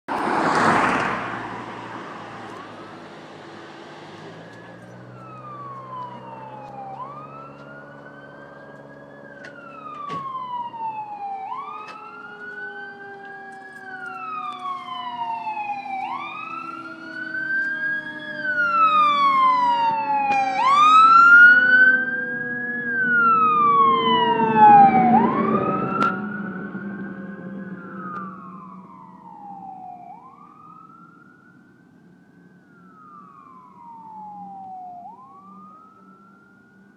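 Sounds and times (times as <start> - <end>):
fire engine siren wailing: 0.1 - 36.9.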